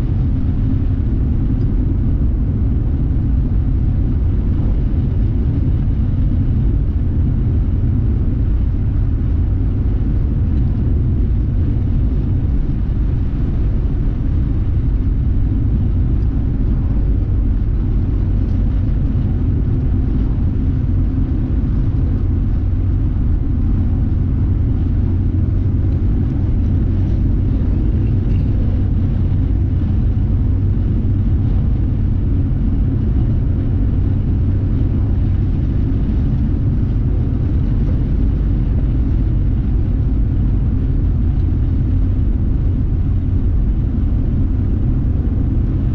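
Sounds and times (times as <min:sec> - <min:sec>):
car interior road rumble: 0:00.0 - 0:45.9.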